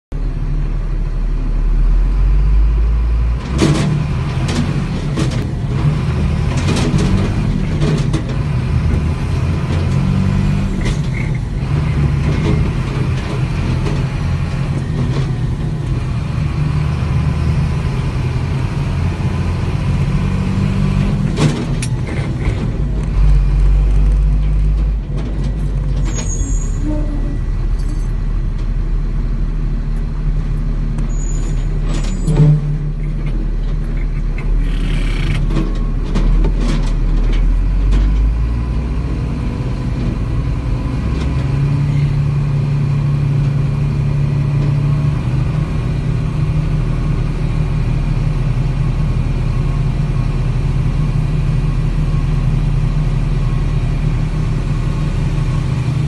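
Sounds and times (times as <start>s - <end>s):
vehicle engine running: 0.1s - 56.0s.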